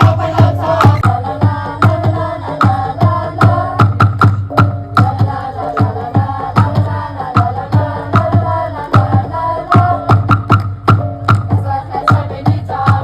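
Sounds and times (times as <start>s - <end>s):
chant-like group singing: 0.0s - 10.7s, 11.3s - 13.0s
steady drum beat: 0.0s - 13.0s.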